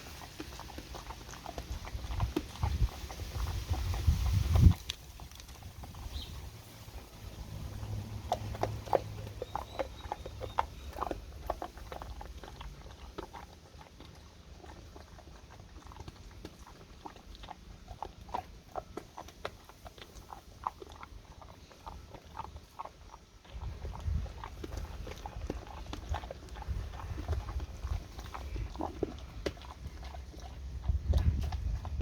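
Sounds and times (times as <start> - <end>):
pet crunching a chew: 0.0 - 32.0.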